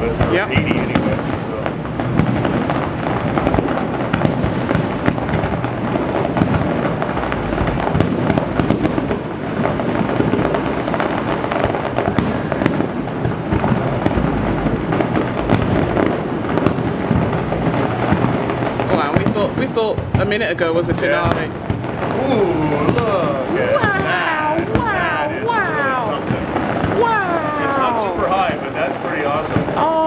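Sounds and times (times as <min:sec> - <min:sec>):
fireworks booming and crackling: 0:00.0 - 0:30.0.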